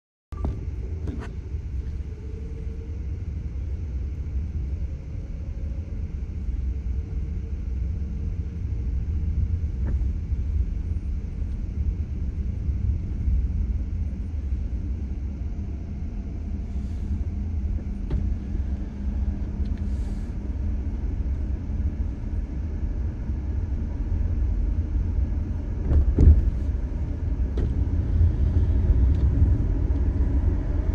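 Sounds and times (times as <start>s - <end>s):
low background rumble: 0.3s - 30.9s.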